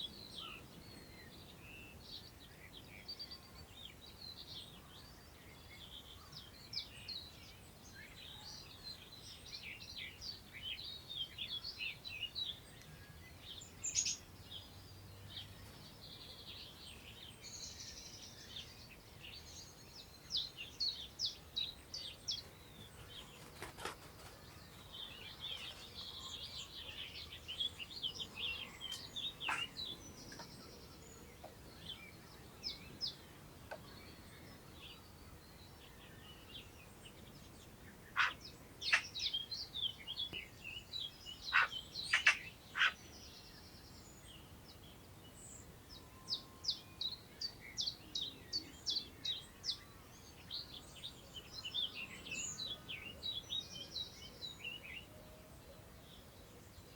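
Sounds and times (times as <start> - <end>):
songbirds chirping and trilling: 0.0 - 56.9
wind through long grass: 0.0 - 56.9.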